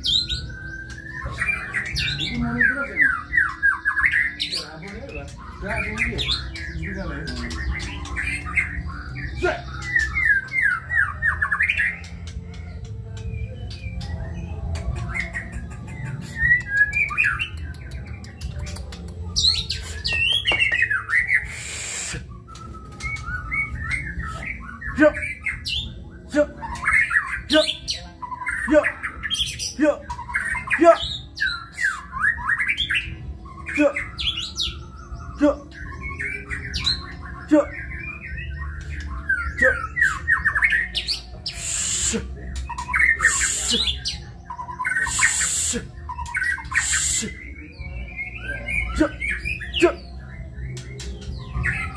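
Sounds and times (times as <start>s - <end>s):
bird singing whistled phrases: 0.0s - 4.6s, 5.4s - 12.2s, 13.7s - 51.9s.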